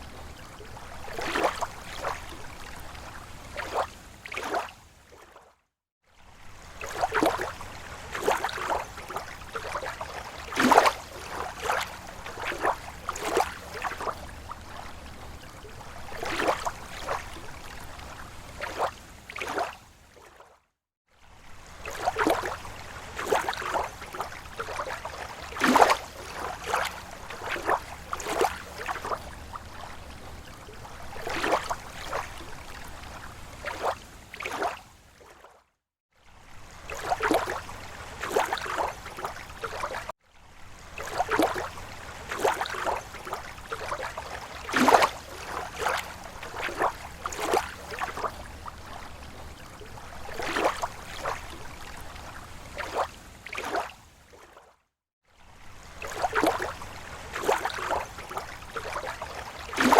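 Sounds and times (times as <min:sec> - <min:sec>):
water lapping against shore: 0:00.0 - 0:59.9.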